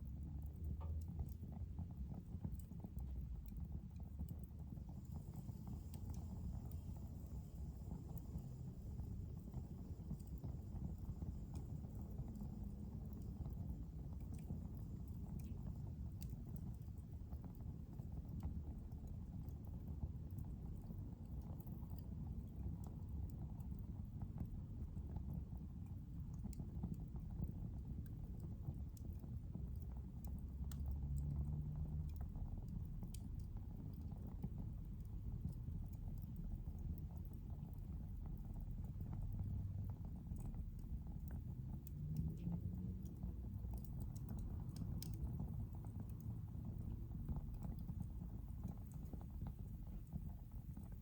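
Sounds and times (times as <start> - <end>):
fire crackling and popping: 0.0 - 51.0
fire rumbling: 0.0 - 51.0.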